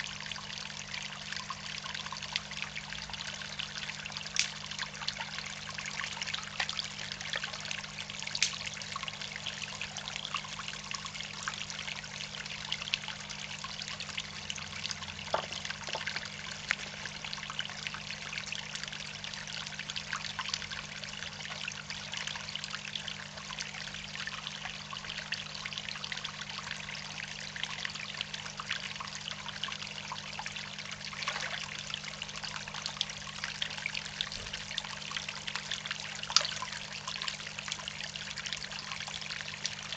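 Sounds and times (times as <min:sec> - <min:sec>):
low steady hum: 0:00.0 - 0:39.9
water trickling and splashing: 0:00.0 - 0:39.9.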